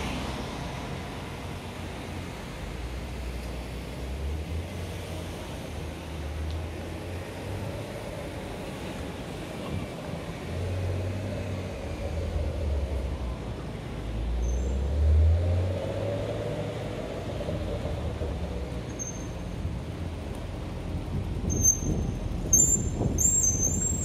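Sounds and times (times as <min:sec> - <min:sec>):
traffic passing: 0:00.0 - 0:24.0.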